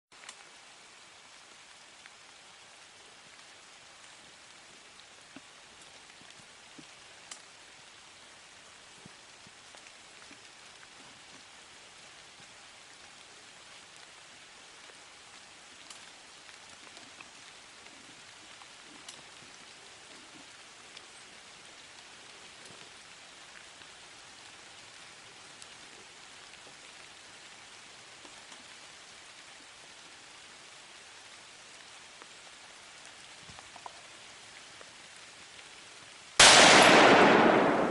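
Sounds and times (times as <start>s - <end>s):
light rain hissing: 0.1s - 37.9s
soft drip ticks: 0.2s - 36.3s.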